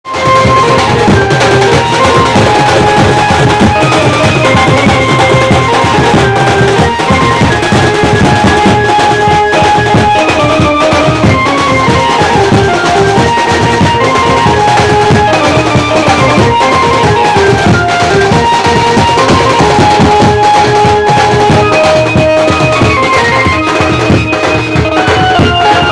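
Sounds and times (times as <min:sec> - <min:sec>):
amplified banjo melody: 0:00.0 - 0:25.9
loud steady drumming: 0:00.0 - 0:25.9.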